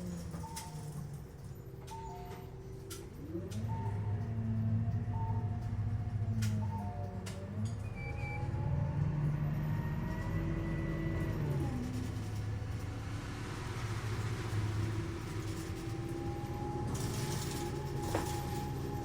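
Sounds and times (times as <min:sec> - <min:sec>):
bus engine and drivetrain running: 0:00.0 - 0:19.0.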